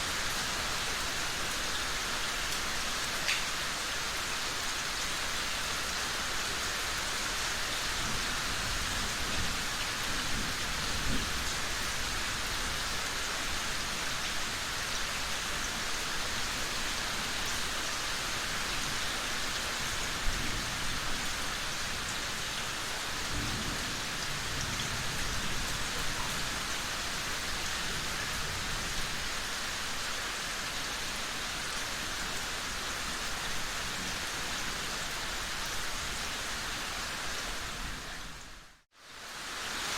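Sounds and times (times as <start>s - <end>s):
dense rainfall hissing: 0.0s - 39.9s.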